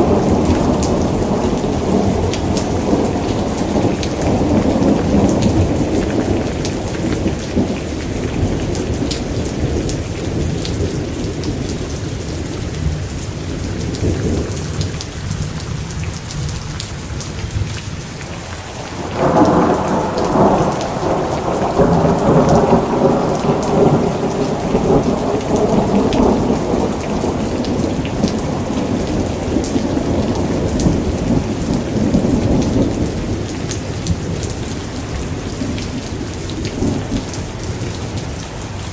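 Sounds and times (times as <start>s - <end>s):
rolling thunder: 0.0s - 15.6s, 18.8s - 38.3s
steady rain: 0.0s - 38.9s.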